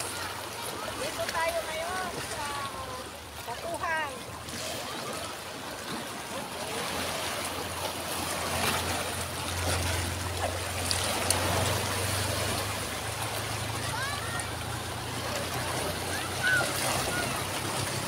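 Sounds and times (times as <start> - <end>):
small waves breaking over rocks: 0.0 - 18.0.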